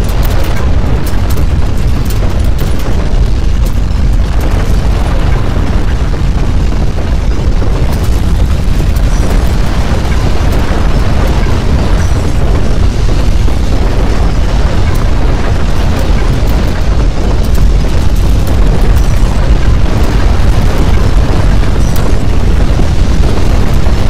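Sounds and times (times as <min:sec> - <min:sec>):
deep earthquake rumble: 0:00.0 - 0:24.0
faint crackles: 0:00.0 - 0:24.0.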